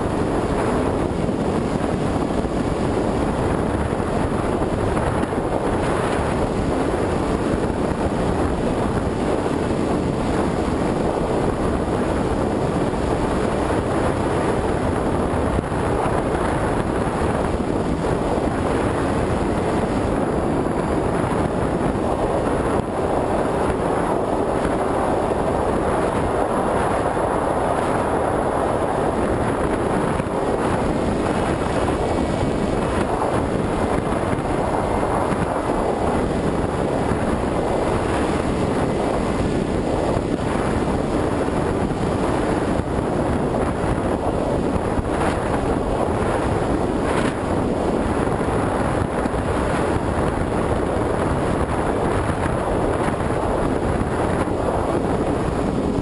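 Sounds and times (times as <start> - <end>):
wind over microphone: 0.0 - 56.0.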